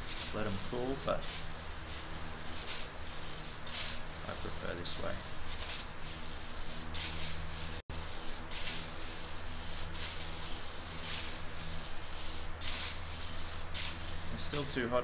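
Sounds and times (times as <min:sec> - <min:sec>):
coffee beans rustling in strainer: 0:00.0 - 0:15.0
electric fan humming: 0:00.0 - 0:15.0.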